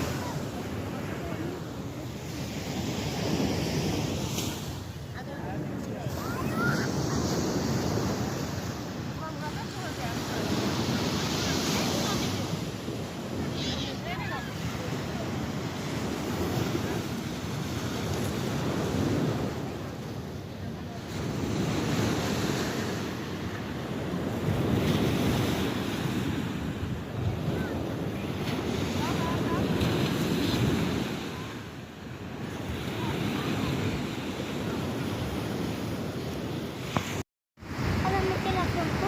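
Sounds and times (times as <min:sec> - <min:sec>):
wind buffeting the microphone: 0:00.0 - 0:39.0.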